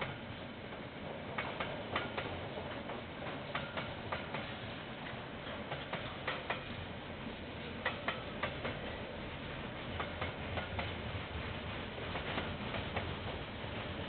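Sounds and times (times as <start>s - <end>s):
train wheels clicking over rail joint: 0.0s - 7.0s, 7.6s - 9.0s, 9.7s - 11.0s, 11.8s - 14.0s
low rumble of wagons: 0.0s - 14.0s.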